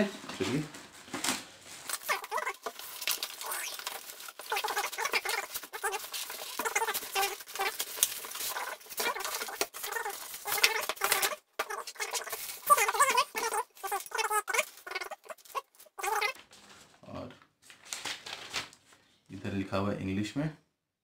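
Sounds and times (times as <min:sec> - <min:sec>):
cardboard and foam rustling: 0:00.0 - 0:19.0
plastic wrap crinkling: 0:00.1 - 0:19.0.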